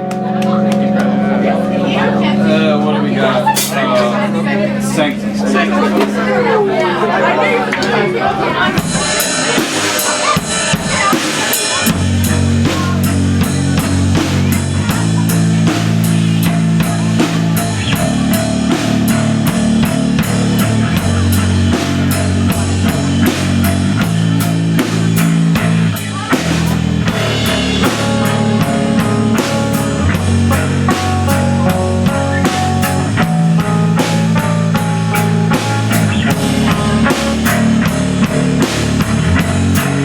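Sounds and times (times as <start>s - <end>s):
live rock band playing: 0.0s - 40.0s
drum kit: 3.4s - 6.3s, 7.7s - 40.0s.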